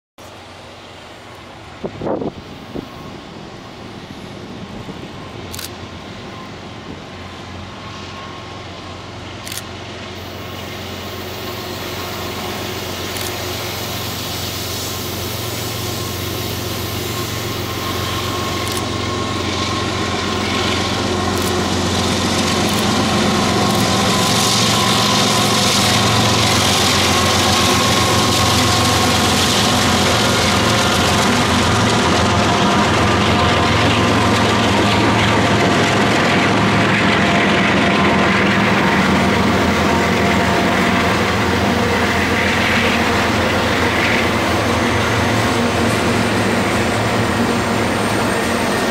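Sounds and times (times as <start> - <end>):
diesel locomotive engine drone: 0.2 - 48.9
hiss of wheels on rail: 0.2 - 48.9.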